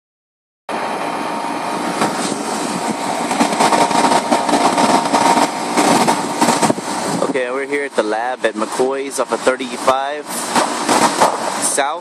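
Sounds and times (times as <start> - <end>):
air conditioner unit whirring: 0.7 - 12.0.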